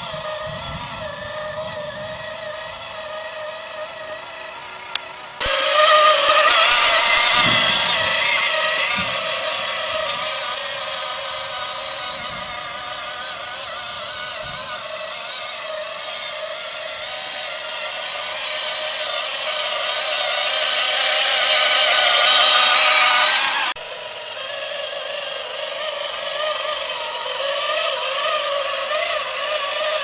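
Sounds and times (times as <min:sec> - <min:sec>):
toy tractor motor whining: 0:00.0 - 0:30.0.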